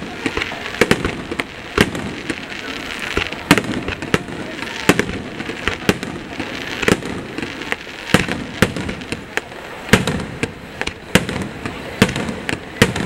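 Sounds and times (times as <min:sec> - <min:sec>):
firework shells bursting: 0:00.0 - 0:13.0
small pops and crackle: 0:00.0 - 0:13.0.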